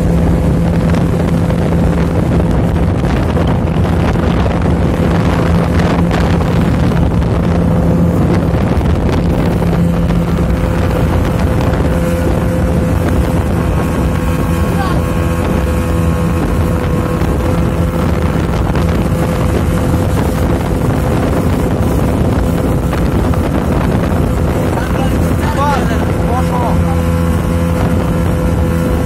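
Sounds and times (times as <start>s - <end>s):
motorboat engine humming: 0.0s - 29.0s
water rushing: 0.0s - 29.0s
wind buffeting microphone: 0.0s - 29.0s.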